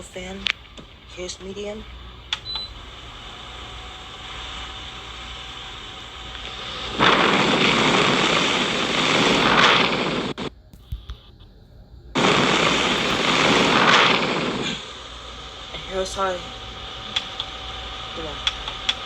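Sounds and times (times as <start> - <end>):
air cooler fan rushing air: 0.0 - 19.0.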